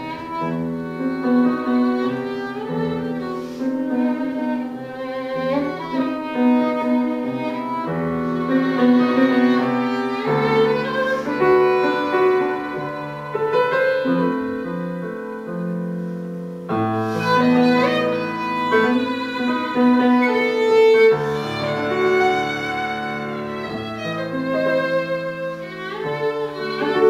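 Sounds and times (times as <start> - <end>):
grand piano playing: 0.0 - 27.0
violin bowed notes: 0.0 - 27.0.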